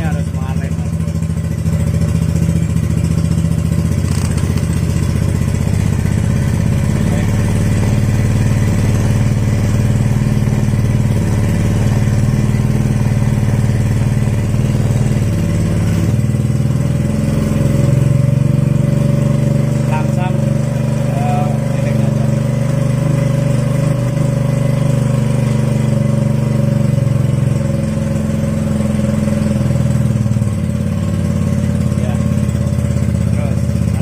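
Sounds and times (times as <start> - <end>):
scooter engine running: 0.0 - 34.0.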